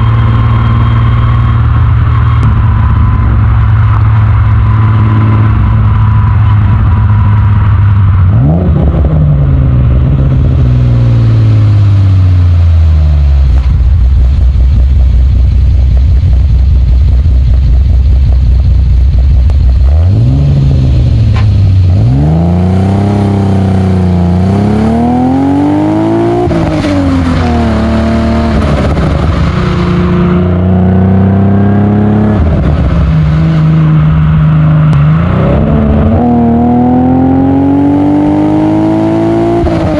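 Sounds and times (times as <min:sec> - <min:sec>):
car engine revving and accelerating: 0:00.0 - 0:18.6, 0:19.2 - 0:39.9.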